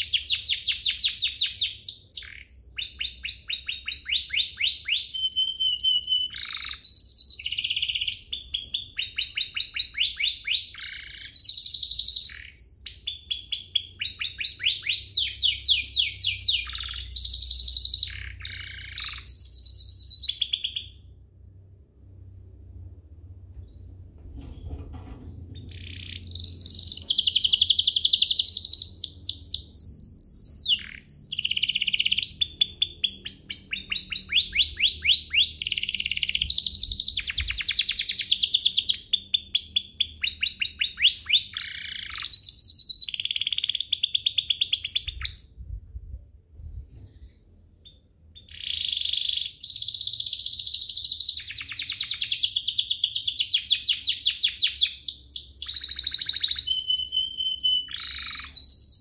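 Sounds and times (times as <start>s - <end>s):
canary singing fast trills: 0.0s - 21.2s, 25.5s - 45.6s, 47.0s - 59.0s.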